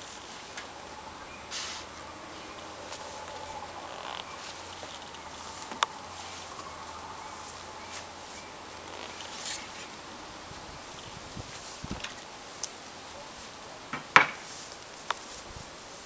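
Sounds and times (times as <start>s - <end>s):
low steady hum: 0.0s - 15.8s
faint background hiss: 0.0s - 16.0s.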